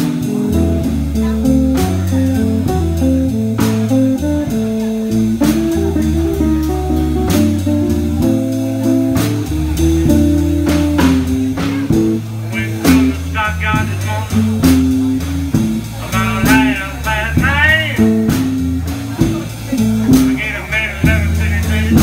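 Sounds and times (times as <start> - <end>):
blues band playing: 0.0 - 22.0
wavering lead guitar line: 0.0 - 22.0.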